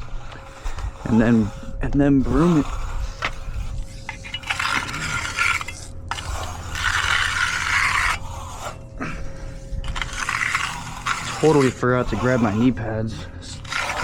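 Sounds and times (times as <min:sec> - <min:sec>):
steady low hum: 0:00.0 - 0:14.0
tool scraping fresh concrete: 0:00.0 - 0:14.0.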